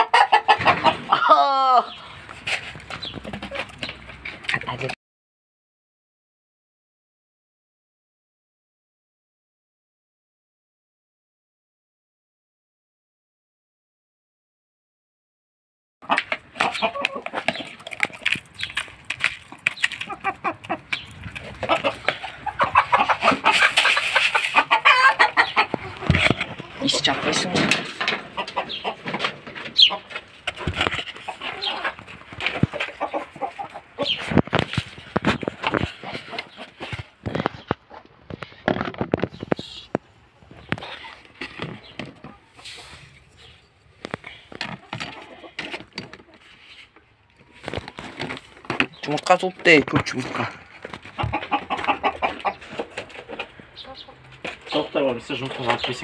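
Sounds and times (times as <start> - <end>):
hens clucking: 0.0 - 5.0, 16.0 - 56.0.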